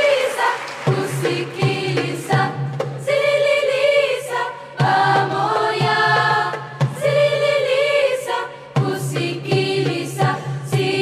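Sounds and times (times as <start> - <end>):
choir singing in harmony: 0.0 - 11.0.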